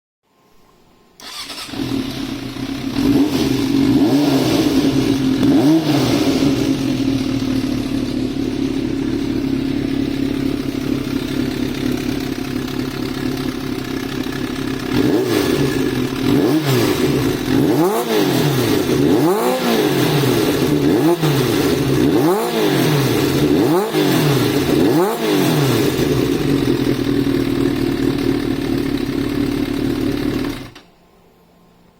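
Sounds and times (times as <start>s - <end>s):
motorcycle engine idling and revving: 1.2s - 30.8s.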